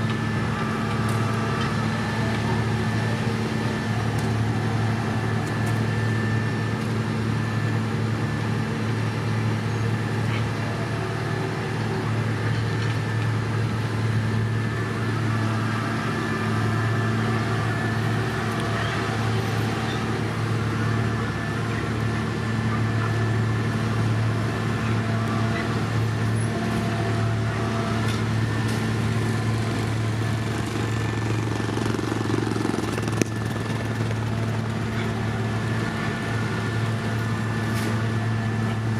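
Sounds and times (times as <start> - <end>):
heavy machinery engine humming: 0.0 - 38.9.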